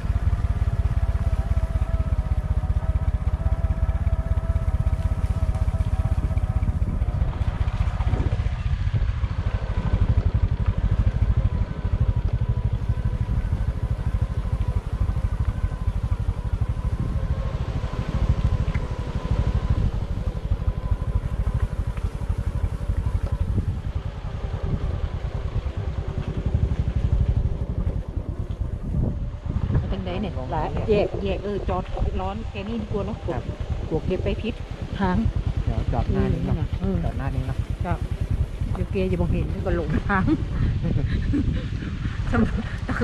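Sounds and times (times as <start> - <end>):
faint steady whine: 0.0 - 43.0
vehicle engine and road rumble: 0.0 - 43.0.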